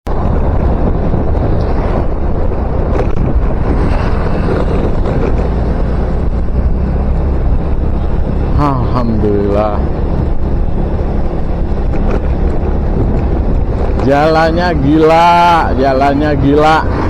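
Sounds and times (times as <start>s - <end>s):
road noise: 0.0s - 17.0s
wind noise on microphone: 0.0s - 17.0s
motorcycle engine: 0.1s - 16.3s.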